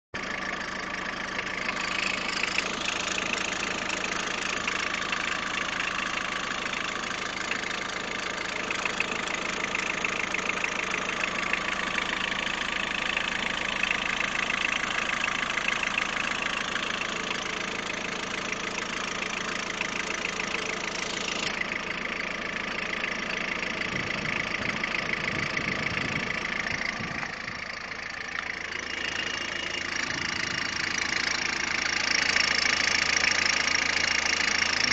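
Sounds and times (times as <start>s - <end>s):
diesel engine idling: 0.2s - 34.9s
low rumbles: 0.2s - 34.9s.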